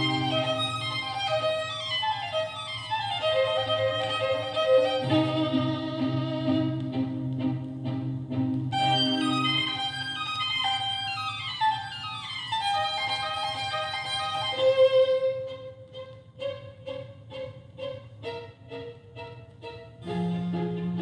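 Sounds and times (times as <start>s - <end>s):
violin music from a turntable: 0.0s - 21.0s.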